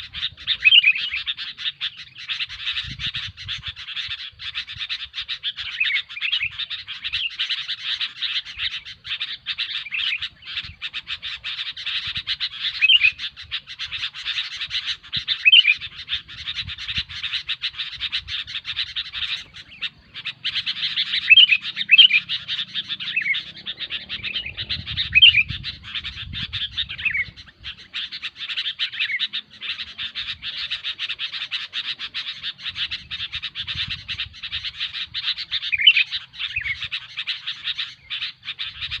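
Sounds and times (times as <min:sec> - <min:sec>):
bulbuls chattering and whistling: 0:00.0 - 0:39.0.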